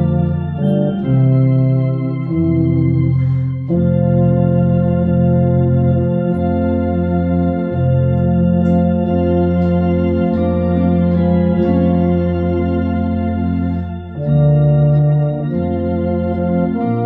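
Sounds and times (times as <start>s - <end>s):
organ and euphonium playing hymn: 0.0s - 17.0s.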